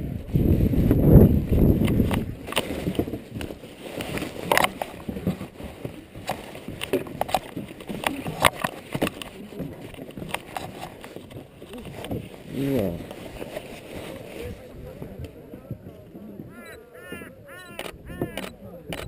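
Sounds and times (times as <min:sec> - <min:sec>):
footsteps on wooden boardwalk: 0:00.4 - 0:19.0.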